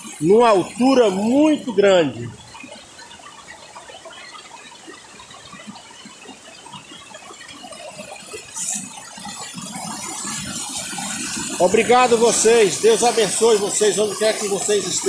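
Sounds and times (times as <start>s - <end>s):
creek water over rocks: 0.0s - 15.0s.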